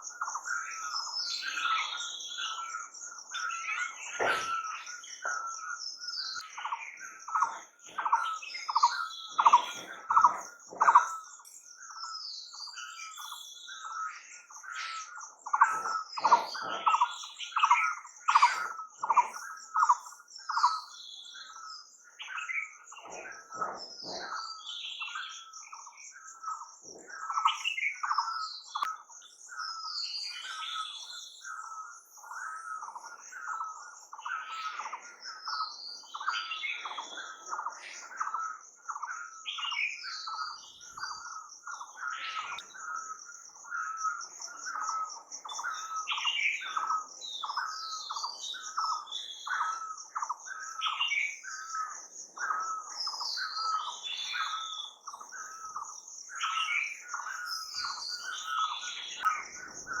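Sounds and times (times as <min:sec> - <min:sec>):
birds chirping and calling: 0:00.0 - 1:00.0.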